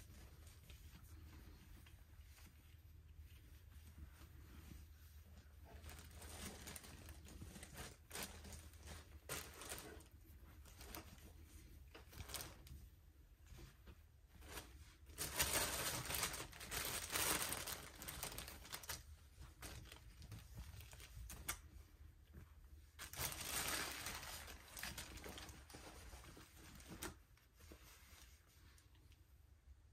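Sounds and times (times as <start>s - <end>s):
fleece sweatshirt rustling: 0.0s - 29.2s.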